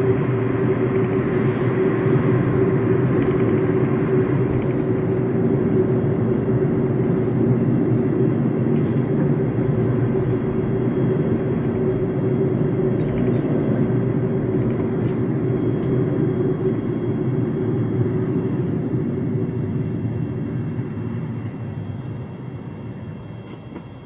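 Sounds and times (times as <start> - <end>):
engine drone: 0.0 - 24.0
road and tyre noise: 0.0 - 24.0.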